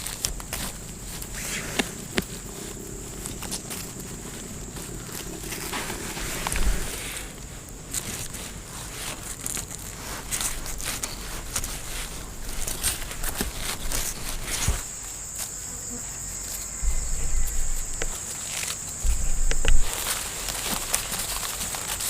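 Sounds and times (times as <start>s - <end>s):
low rumbling bumps: 0.0s - 14.9s, 16.8s - 21.2s
rustling and small knocks: 0.0s - 15.6s, 16.4s - 22.0s
insect buzzing: 0.0s - 22.0s.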